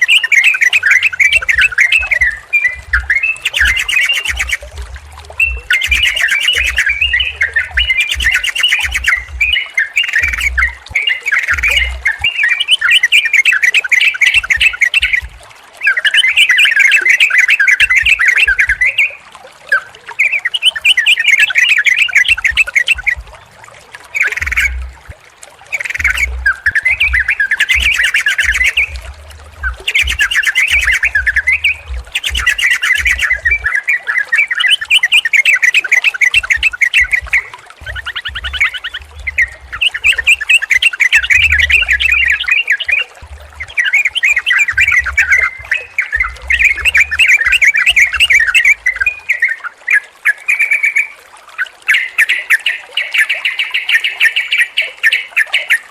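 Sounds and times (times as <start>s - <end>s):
bulbuls bubbling chatter: 0.0s - 50.2s.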